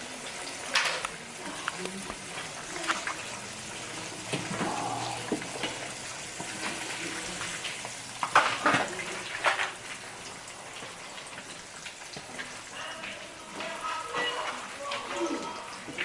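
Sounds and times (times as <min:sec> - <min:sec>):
fish frying in hot oil: 0:00.0 - 0:16.0.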